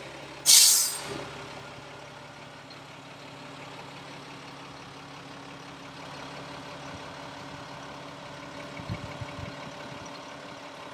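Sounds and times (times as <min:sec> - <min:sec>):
diesel truck engine idling: 0:00.0 - 0:10.9.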